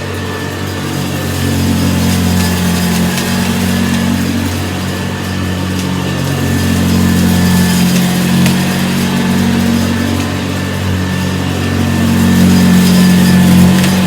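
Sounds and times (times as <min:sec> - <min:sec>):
vacuum cleaner on carpet: 0:00.0 - 0:14.0.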